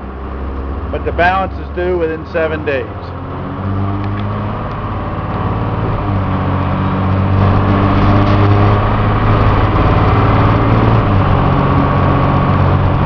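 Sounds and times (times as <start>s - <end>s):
diesel engine running: 0.0s - 13.0s
road noise: 0.0s - 13.0s.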